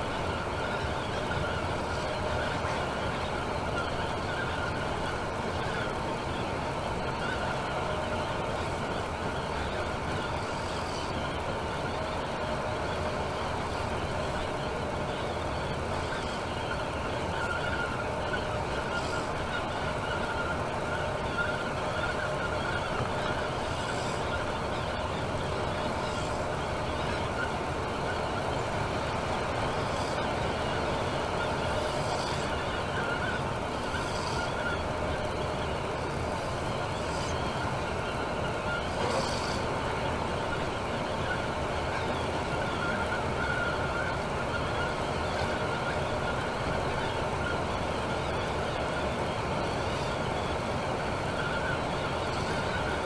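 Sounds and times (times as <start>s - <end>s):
coach engine and road noise: 0.0s - 53.0s
steady whine: 0.0s - 53.0s.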